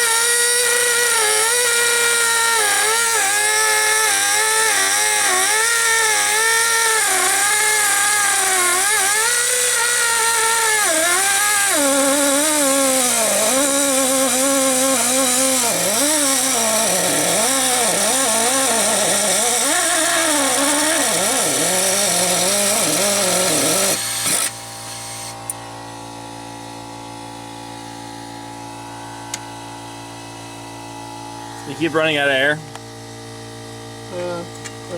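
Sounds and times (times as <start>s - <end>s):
air cut-off tool whining: 0.0s - 34.9s.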